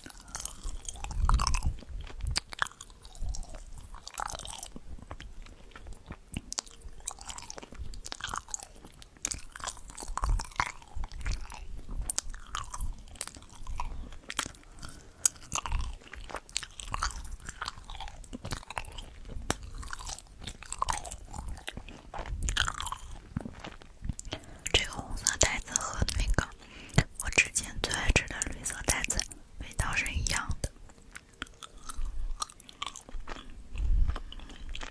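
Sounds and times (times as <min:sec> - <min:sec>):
person chewing food: 0:00.0 - 0:34.9.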